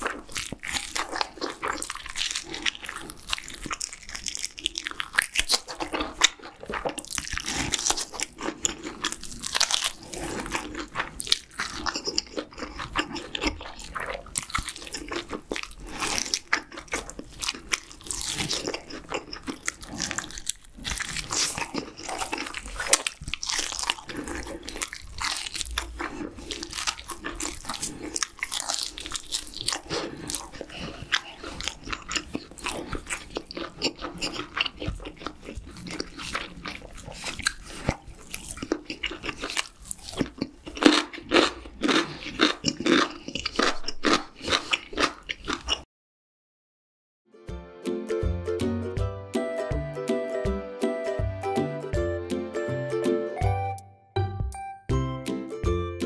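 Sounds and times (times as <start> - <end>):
person chewing meat off bone: 0.0 - 45.9.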